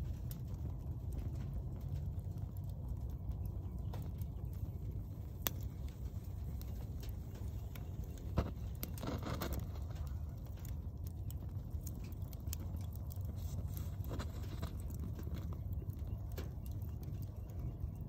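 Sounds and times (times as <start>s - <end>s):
low fire rumble: 0.0s - 18.0s
wood fire crackling and popping: 0.0s - 18.0s.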